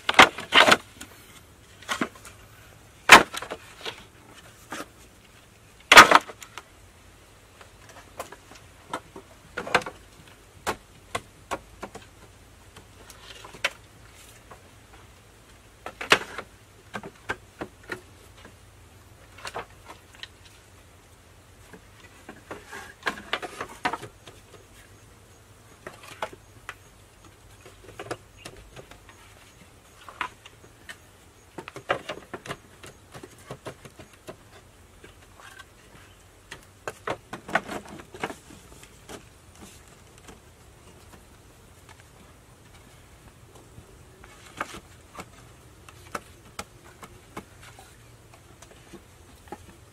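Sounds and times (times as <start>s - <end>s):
bamboo poles knocking and clattering: 0.0s - 6.7s, 7.6s - 20.9s, 21.6s - 25.0s, 25.7s - 49.9s.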